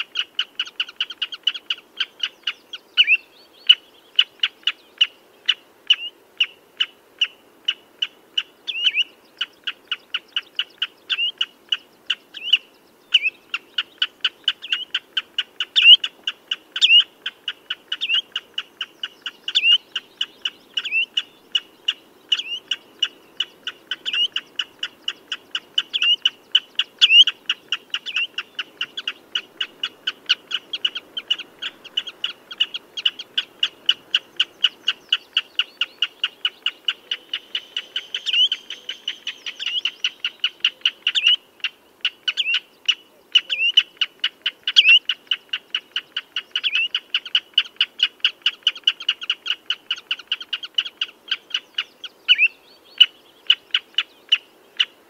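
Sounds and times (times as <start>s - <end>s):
shorebird piping calls: 0.0s - 55.0s.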